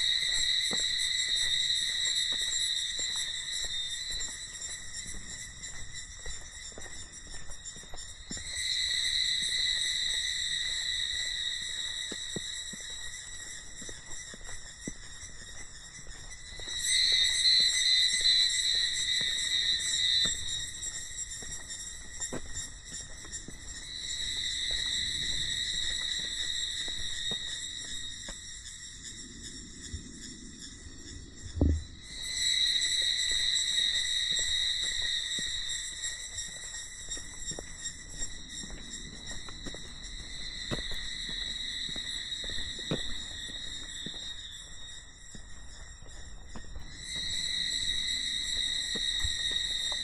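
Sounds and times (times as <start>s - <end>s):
cicadas buzzing: 0.0s - 50.0s
high-pitched insect chorus: 0.0s - 50.0s.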